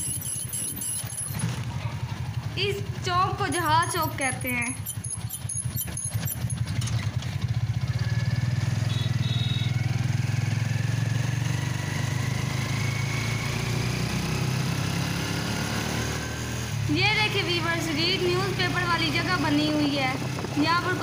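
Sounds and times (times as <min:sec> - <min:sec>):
small vehicle engine running: 0:00.0 - 0:21.0.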